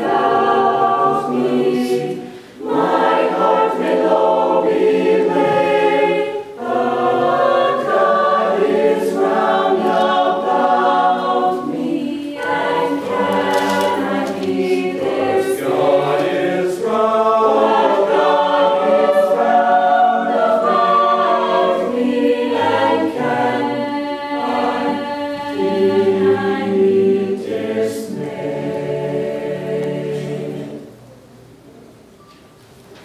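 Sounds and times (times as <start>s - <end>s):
youth choir singing a hymn: 0.0s - 31.0s.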